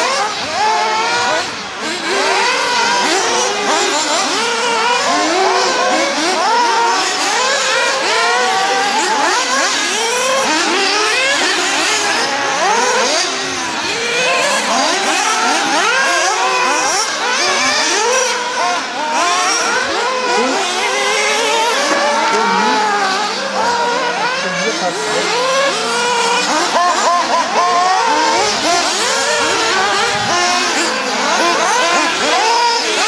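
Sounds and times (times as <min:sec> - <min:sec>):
rc buggy engines whining: 0:00.0 - 0:33.0.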